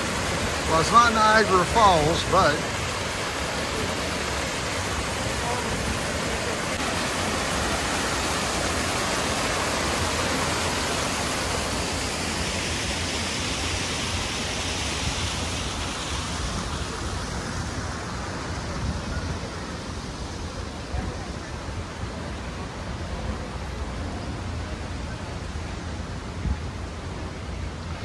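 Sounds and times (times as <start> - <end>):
waterfall splashing: 0.0 - 28.0.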